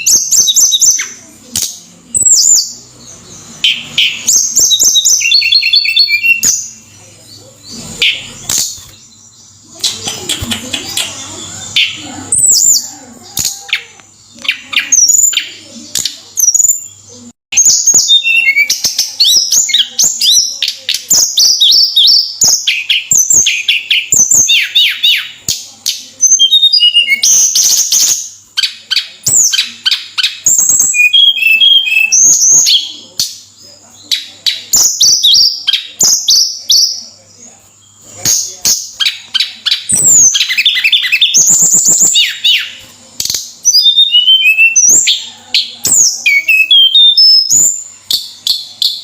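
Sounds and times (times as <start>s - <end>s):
songbird singing: 0.0s - 49.0s.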